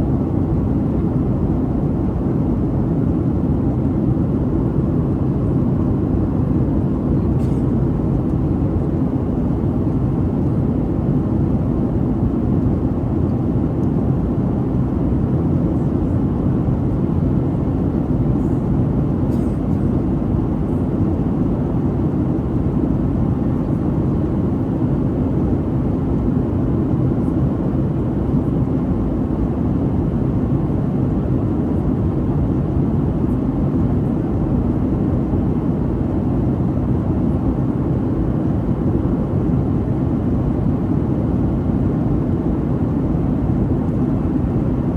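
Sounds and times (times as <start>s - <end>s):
jet cabin rumble: 1.9s - 44.9s.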